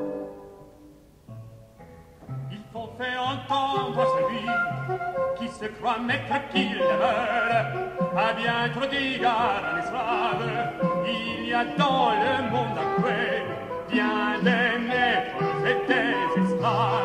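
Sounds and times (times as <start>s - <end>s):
orchestral music: 0.0s - 1.1s, 3.6s - 17.0s
operatic voice singing: 2.5s - 17.0s.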